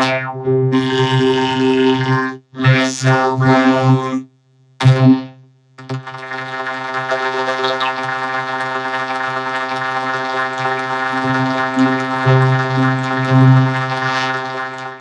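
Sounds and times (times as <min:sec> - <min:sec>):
vocoder buzzing chord: 0:00.0 - 0:15.0.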